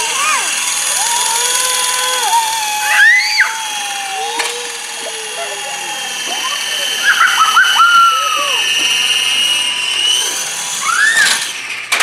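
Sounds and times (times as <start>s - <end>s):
high voices calling out: 0.0s - 11.4s
rc helicopter rotor whine: 0.0s - 12.0s.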